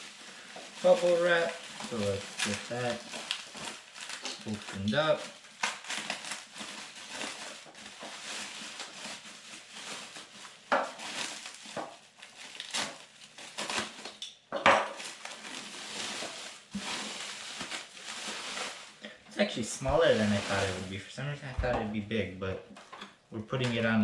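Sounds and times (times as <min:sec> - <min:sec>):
bubble wrap crinkling: 0:00.0 - 0:22.1.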